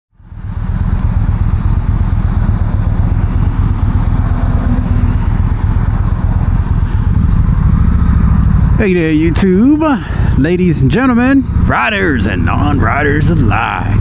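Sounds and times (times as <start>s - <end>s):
motorcycle engine idling: 0.2s - 14.0s.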